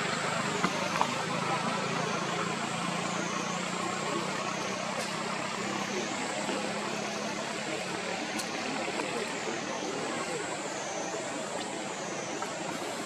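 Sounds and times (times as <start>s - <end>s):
traffic hum: 0.0s - 13.0s.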